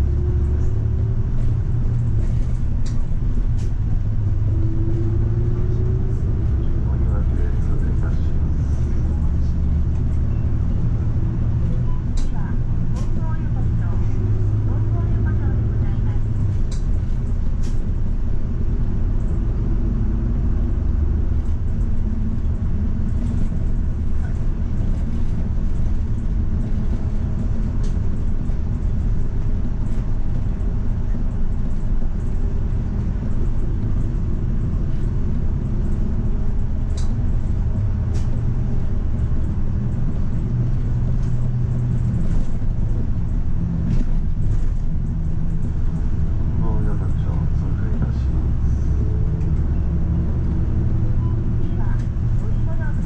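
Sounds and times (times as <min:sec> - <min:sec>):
bus engine rumble: 0:00.0 - 0:53.0
road noise: 0:00.0 - 0:53.0.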